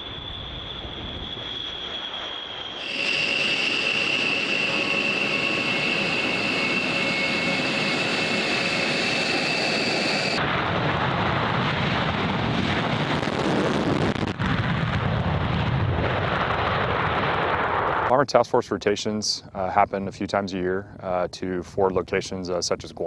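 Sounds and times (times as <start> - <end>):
jet engine whine: 0.0 - 19.1
jet engine roar: 0.0 - 19.2.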